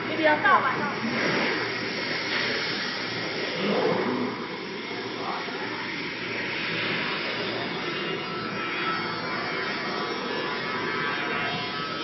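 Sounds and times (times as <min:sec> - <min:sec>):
mill whirring: 0:00.0 - 0:12.0.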